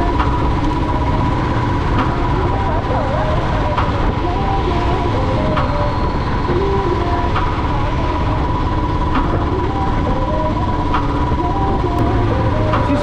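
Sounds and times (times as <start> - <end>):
higher tones: 0.0 - 13.0
motorcycle engine running: 0.0 - 13.0
road noise: 0.0 - 13.0.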